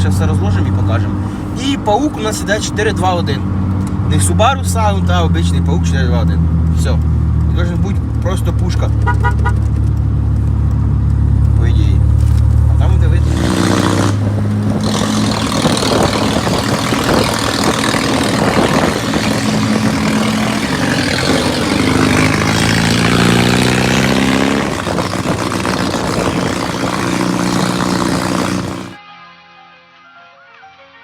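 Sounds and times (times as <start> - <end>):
car engine revving: 0.0 - 29.0
road and wind noise: 0.0 - 29.0.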